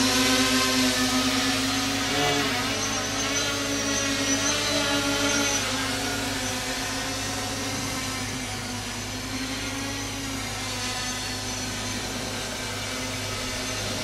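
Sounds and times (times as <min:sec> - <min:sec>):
quadcopter propeller whine: 0:00.0 - 0:14.0.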